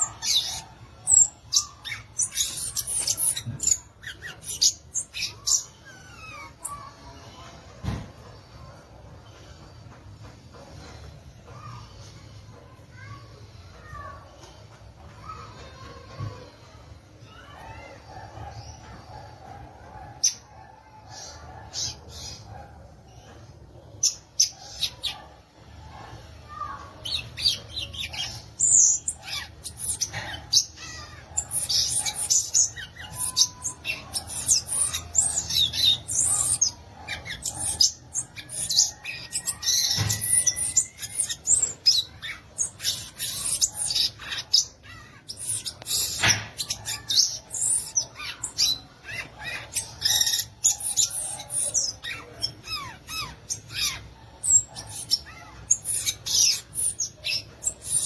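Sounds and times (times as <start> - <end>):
bird twittering and chattering: 0.0 - 7.4, 17.3 - 58.0.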